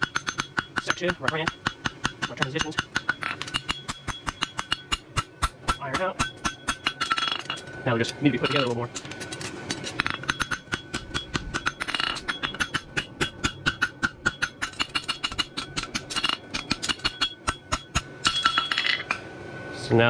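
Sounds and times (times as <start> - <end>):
hammer striking steel on anvil: 0.0 - 7.6, 8.3 - 19.2
anvil ringing: 0.0 - 7.7, 8.3 - 8.9, 9.8 - 19.2.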